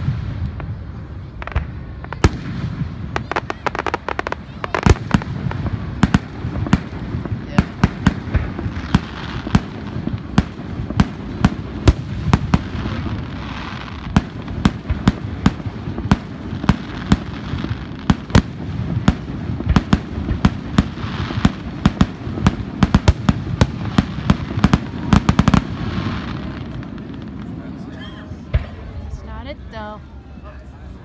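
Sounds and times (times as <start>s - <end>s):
fireworks bangs and pops: 0.0s - 29.5s.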